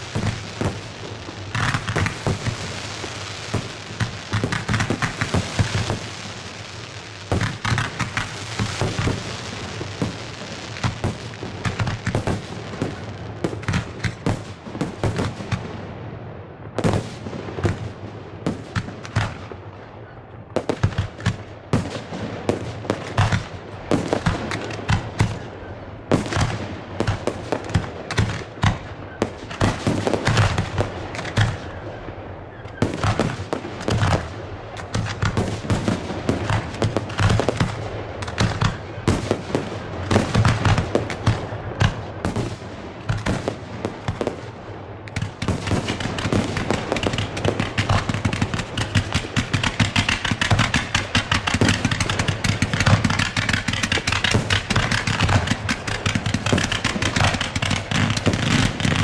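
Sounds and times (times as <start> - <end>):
fireworks bursting: 0.0 - 19.8, 20.5 - 59.0
rapid-fire crackle of fireworks: 0.0 - 59.0.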